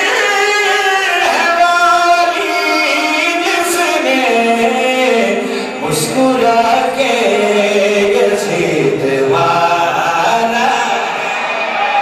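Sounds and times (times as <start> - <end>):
man chanting into a microphone: 0.0 - 11.3.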